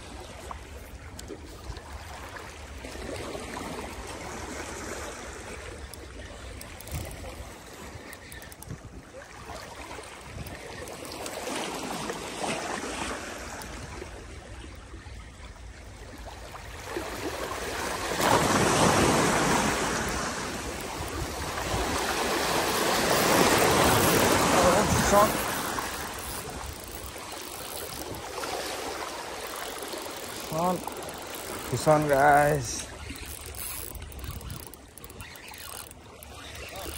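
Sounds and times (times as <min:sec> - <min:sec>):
sea water lapping and splashing: 0:00.0 - 0:36.9
surges of swishing water: 0:00.0 - 0:36.9.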